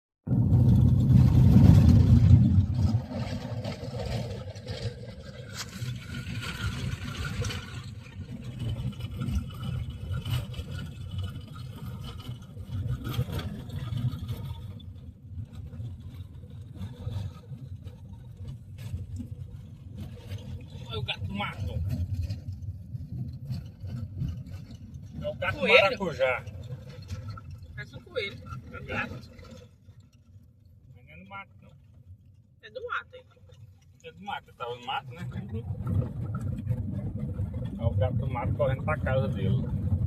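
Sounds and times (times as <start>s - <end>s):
car engine and road rumble: 0.2s - 40.0s.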